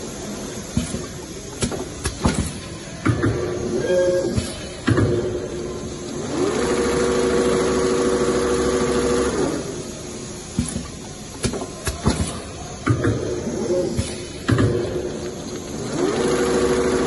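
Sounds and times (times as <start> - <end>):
sewing machine mechanical hum: 0.0 - 17.0.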